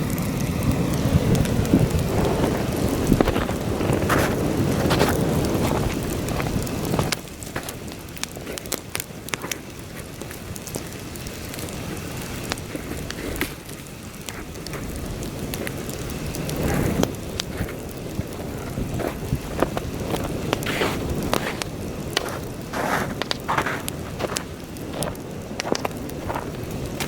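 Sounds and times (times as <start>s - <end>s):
campfire crackling and popping: 0.0s - 27.0s
wind buffeting microphone: 0.0s - 27.0s.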